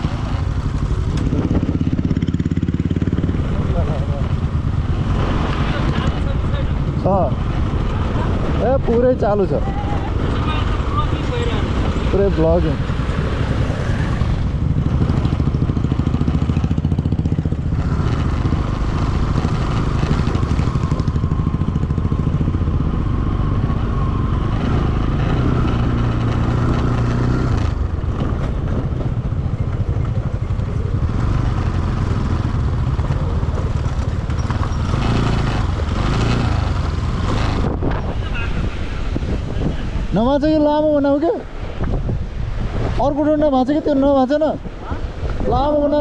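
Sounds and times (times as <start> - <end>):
motorcycle engine running: 0.0 - 40.3.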